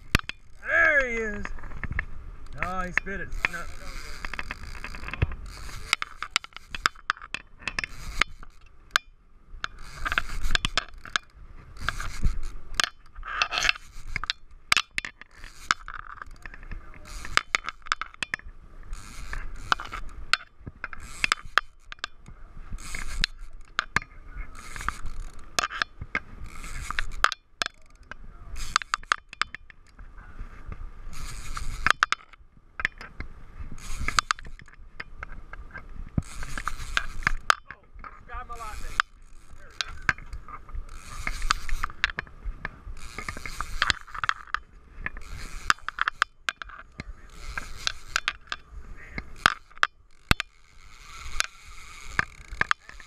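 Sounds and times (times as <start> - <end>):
fishing reel clicking and rasping: 0.0 - 30.0, 31.1 - 53.0.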